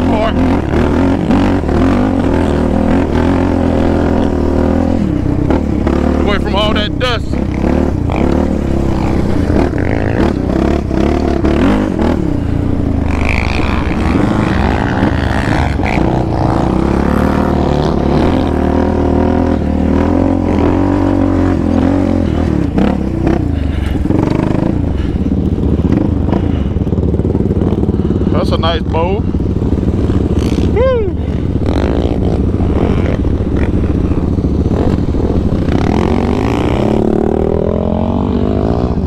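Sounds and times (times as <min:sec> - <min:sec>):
quad engine revving under load: 0:00.0 - 0:39.0.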